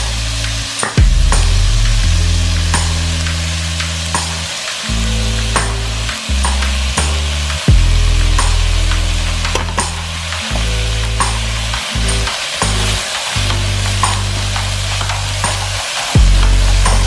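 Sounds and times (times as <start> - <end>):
background music: 0.0 - 17.0
meat sizzling in a wok: 0.0 - 17.0.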